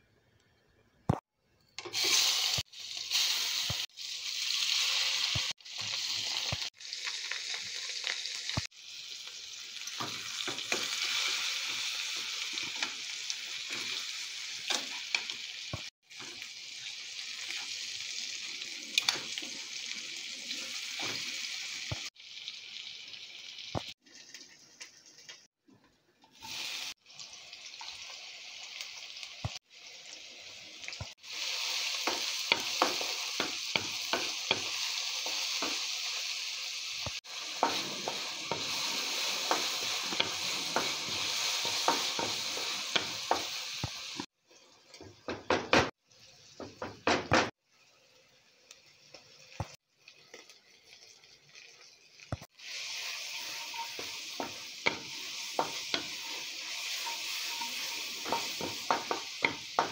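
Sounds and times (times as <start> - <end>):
oil sizzling in a frying pan: 1.8 - 25.6, 26.2 - 59.9.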